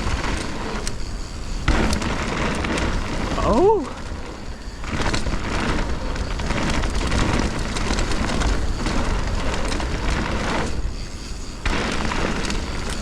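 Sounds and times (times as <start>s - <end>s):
rumbling bike tyres on trail: 0.0s - 13.0s
wind rush on microphone: 0.0s - 13.0s.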